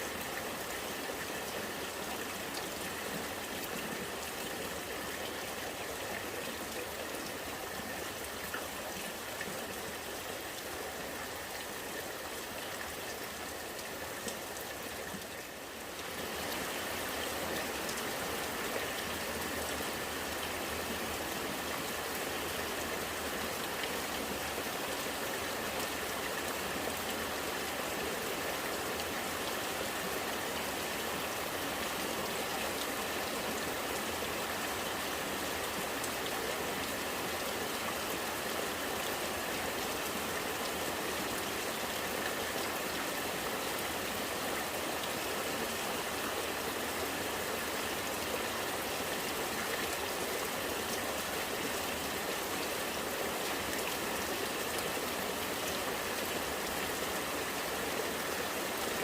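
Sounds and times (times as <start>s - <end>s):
rain falling steadily: 0.0s - 59.0s
rainwater gurgling: 0.0s - 59.0s.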